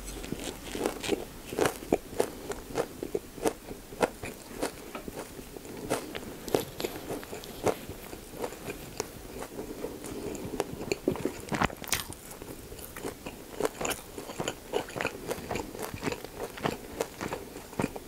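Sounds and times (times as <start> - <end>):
close chewing with wet crunches: 0.0 - 18.0.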